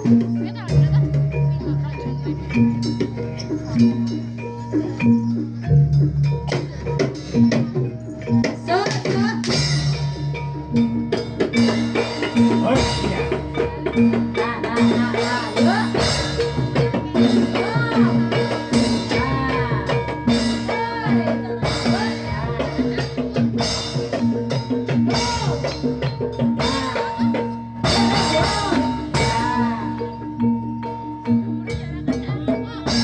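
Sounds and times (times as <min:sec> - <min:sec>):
percussion ensemble with hand drums: 0:00.0 - 0:33.0.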